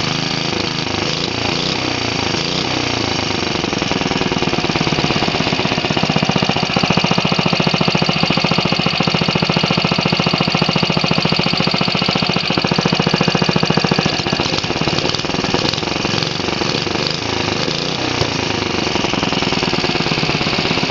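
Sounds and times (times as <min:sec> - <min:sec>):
small single-cylinder engine running: 0:00.0 - 0:20.9.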